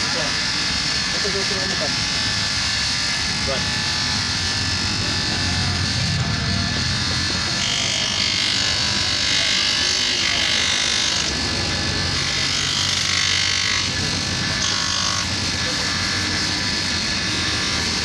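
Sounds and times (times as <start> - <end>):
bench grinder motor hum: 0.0 - 18.0.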